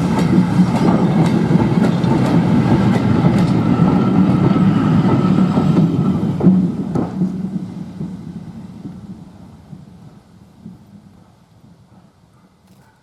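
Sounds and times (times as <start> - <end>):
steam locomotive running: 0.0 - 12.6.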